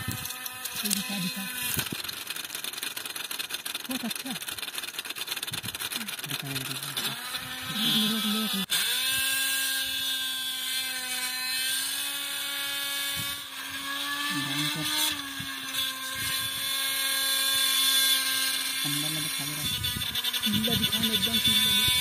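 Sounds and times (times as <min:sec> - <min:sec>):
small electric motor rattling buzz: 0:00.0 - 0:22.0
small electric motor whine: 0:00.0 - 0:22.0.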